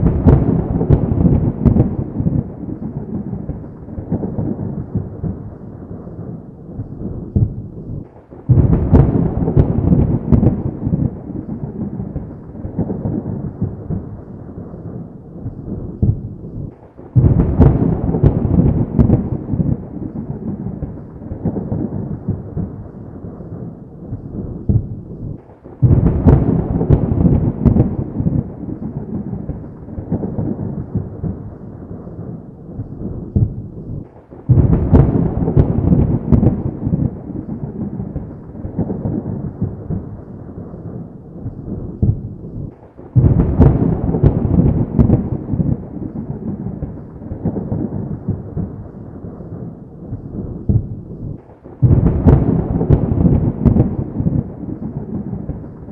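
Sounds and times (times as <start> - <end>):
rolling thunder rumble: 0.0 - 55.9
thunder cracks: 0.0 - 55.9.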